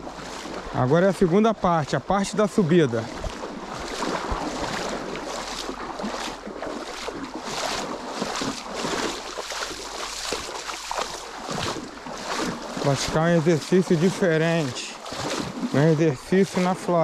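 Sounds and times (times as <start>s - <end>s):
wading through water splashing: 0.0s - 17.0s.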